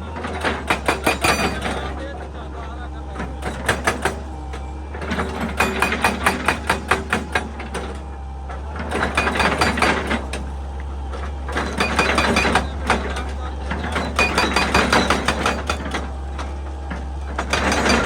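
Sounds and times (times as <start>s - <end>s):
excavator knocking and crunching: 0.0s - 18.0s.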